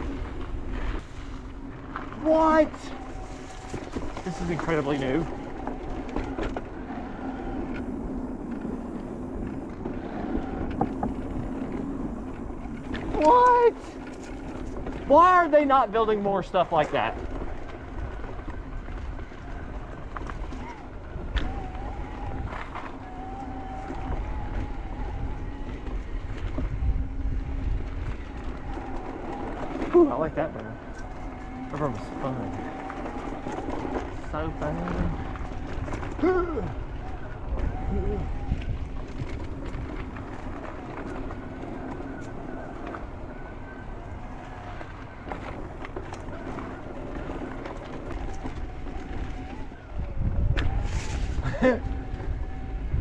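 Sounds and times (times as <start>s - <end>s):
electric bike motor whining: 0.0s - 53.0s
tyres rumbling on trail: 0.0s - 53.0s
wind noise: 0.0s - 53.0s.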